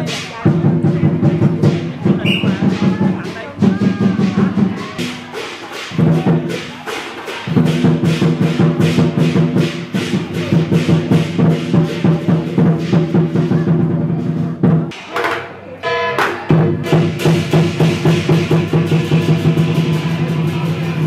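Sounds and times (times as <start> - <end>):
cymbals clashing: 0.0 - 21.0
drum beating: 0.0 - 21.0.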